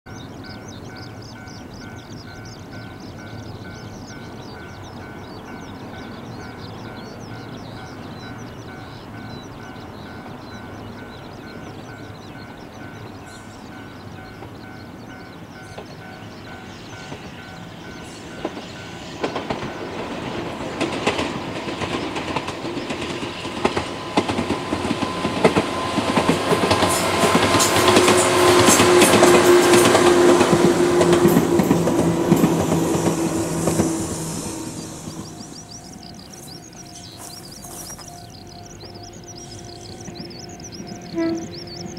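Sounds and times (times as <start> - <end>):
train steady hum: 0.1 - 41.9
train wheels clacking: 0.6 - 41.9.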